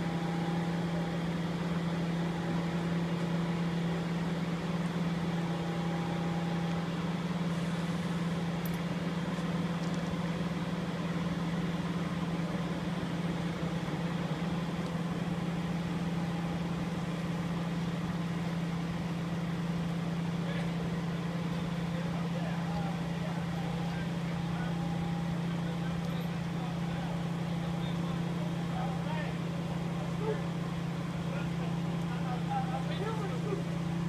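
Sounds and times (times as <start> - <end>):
large engine running steadily: 0.0 - 34.0.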